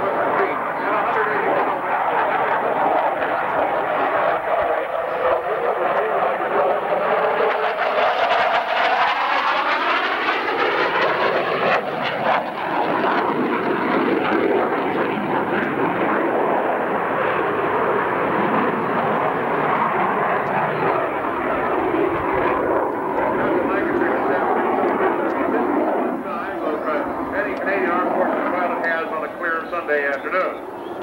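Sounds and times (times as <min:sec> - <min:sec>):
jet passing overhead: 0:00.0 - 0:31.0.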